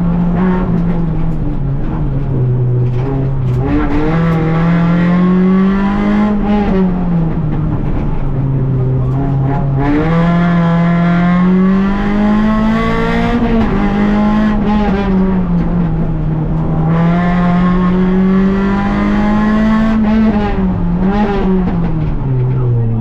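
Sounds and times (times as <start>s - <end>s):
rally car engine from inside cabin: 0.0s - 23.0s.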